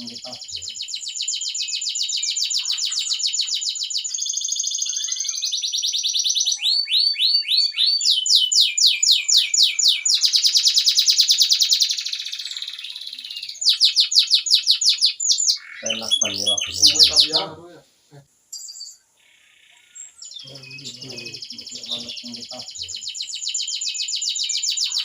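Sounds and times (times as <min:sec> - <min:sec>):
canary singing trills: 0:00.0 - 0:17.7, 0:18.6 - 0:25.0.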